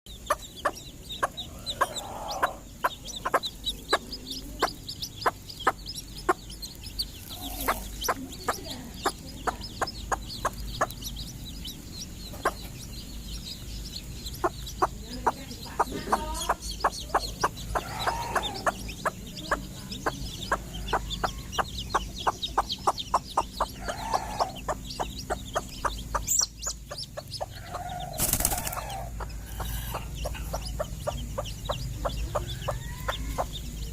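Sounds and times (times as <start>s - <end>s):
hen clucking: 0.1s - 33.9s.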